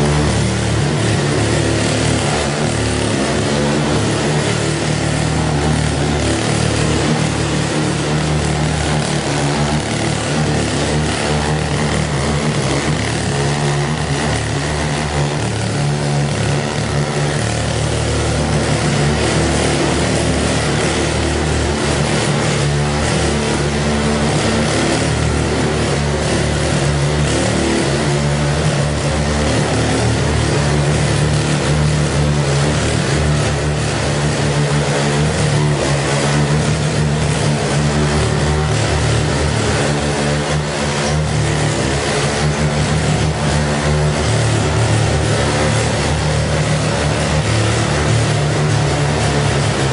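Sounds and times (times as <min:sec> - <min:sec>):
tiller engine running: 0:00.0 - 0:49.9.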